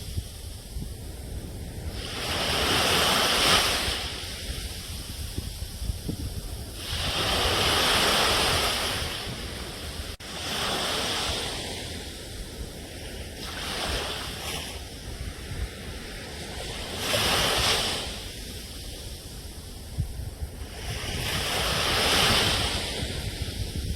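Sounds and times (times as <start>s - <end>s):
waves breaking: 0.0s - 23.9s.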